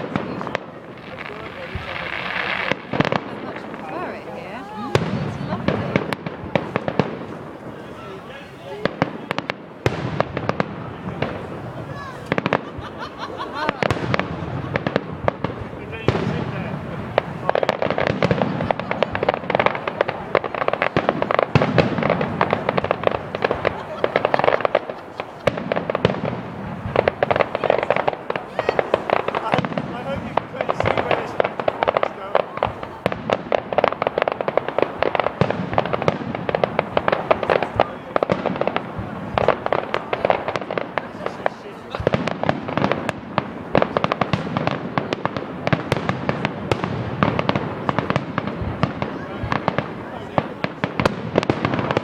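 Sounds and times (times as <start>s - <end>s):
fireworks crackling and popping: 0.0s - 52.0s
loud firework bangs: 0.0s - 52.0s.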